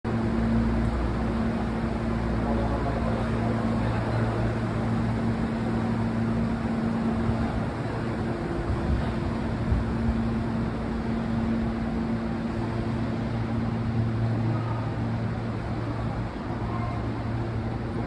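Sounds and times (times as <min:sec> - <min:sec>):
train equipment humming: 0:00.1 - 0:18.0.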